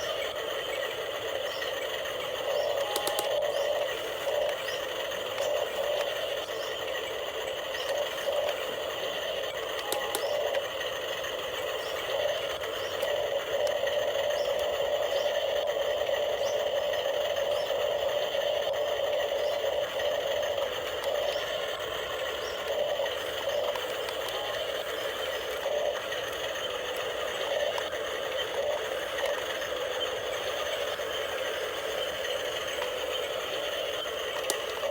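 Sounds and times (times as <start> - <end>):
toy excavator motors whining: 0.0 - 34.9.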